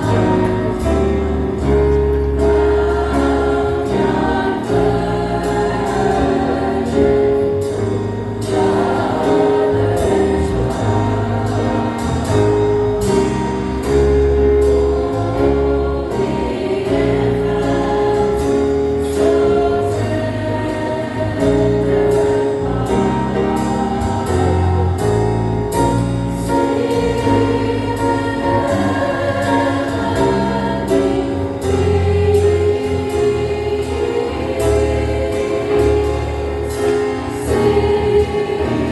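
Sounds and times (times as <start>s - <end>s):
choir singing: 0.0s - 38.9s
jazz instrumental accompaniment: 0.0s - 38.9s.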